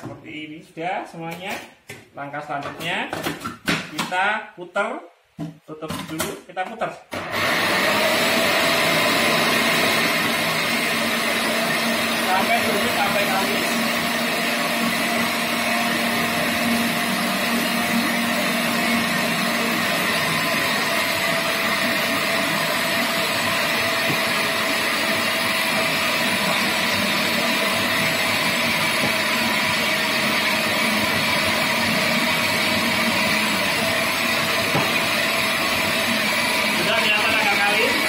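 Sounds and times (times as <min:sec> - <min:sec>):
food processor motor humming: 0:07.1 - 0:38.0.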